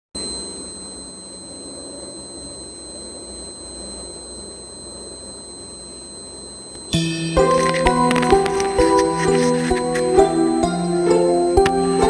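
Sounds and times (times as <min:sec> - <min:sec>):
faint high-pitched whine: 0:00.2 - 0:12.0.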